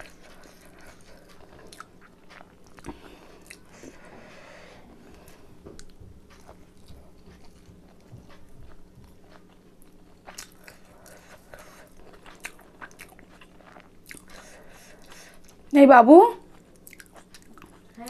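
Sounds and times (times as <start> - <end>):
person chewing food: 0.0 - 15.7, 16.5 - 18.0.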